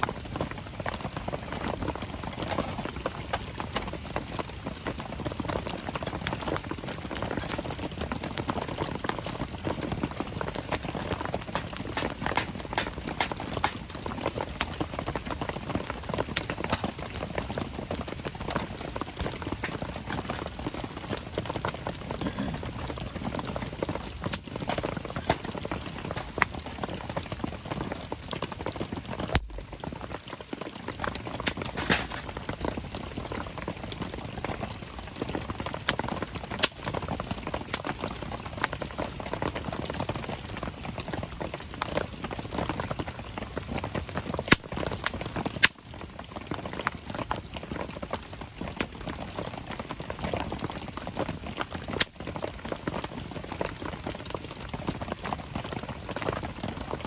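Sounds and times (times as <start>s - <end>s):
campfire crackling: 0.0s - 57.0s
rain pattering: 0.0s - 57.0s.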